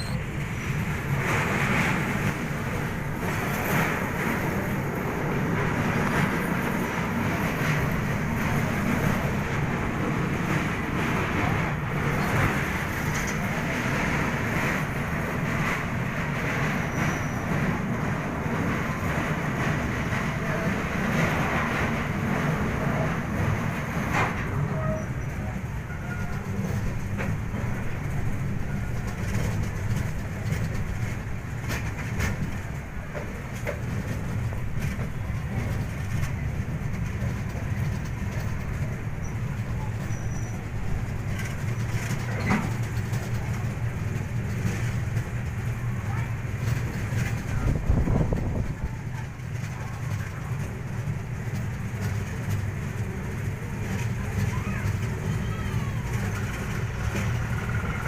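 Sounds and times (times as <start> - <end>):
train coach rumbling: 0.0 - 58.0.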